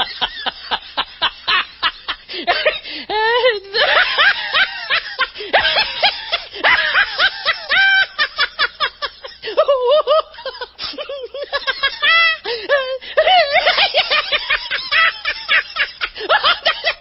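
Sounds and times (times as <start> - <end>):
person laughing in high pitch: 1.4 - 17.0.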